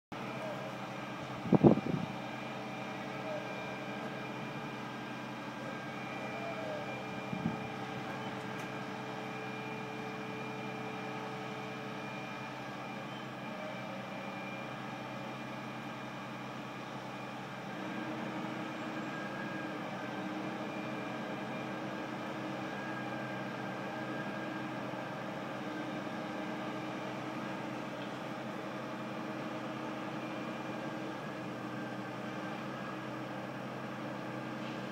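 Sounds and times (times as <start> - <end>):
construction machinery droning: 0.1 - 34.9.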